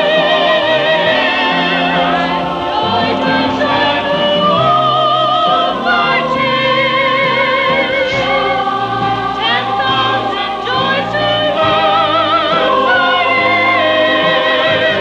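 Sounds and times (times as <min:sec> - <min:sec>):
church choir singing: 0:00.0 - 0:15.0.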